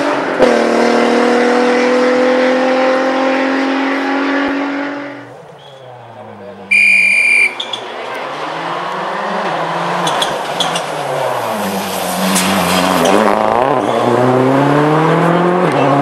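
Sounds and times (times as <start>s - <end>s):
rally car engine accelerating: 0.0s - 6.6s, 7.9s - 16.0s.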